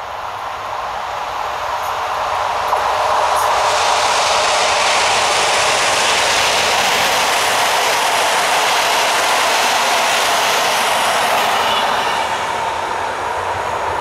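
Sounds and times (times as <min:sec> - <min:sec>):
train wheels rushing on rail: 0:00.0 - 0:14.0.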